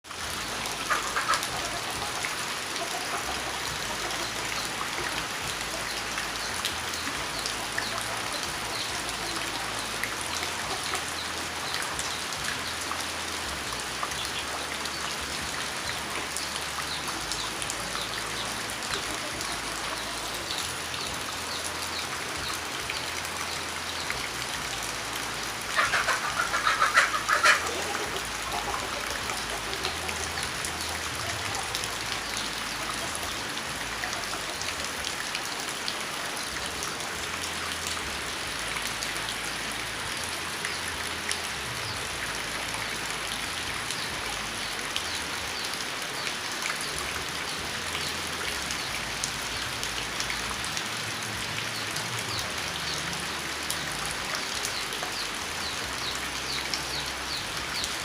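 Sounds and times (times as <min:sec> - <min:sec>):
water pattering: 0:00.2 - 0:58.0.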